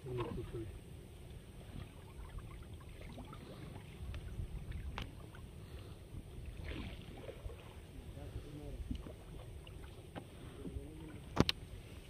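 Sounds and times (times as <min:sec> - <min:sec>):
steady low rumble: 0:00.0 - 0:12.0
water lapping against hull: 0:00.0 - 0:12.0.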